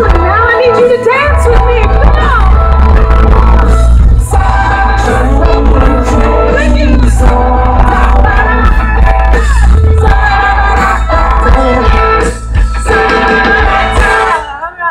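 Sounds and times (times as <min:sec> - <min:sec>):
amplified singing: 0:00.0 - 0:14.9
live country-rock band: 0:00.0 - 0:14.9.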